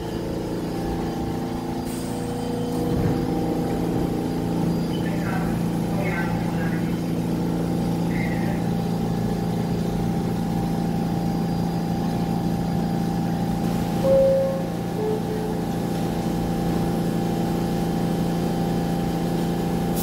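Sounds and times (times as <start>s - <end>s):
subway train humming: 0.0s - 20.0s.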